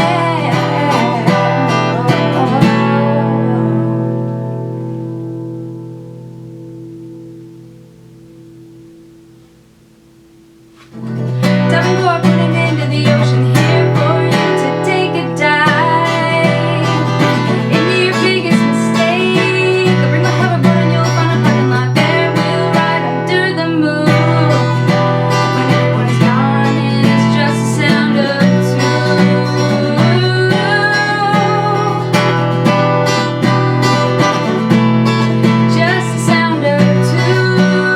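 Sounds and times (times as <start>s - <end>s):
acoustic guitar music: 0.0s - 37.9s.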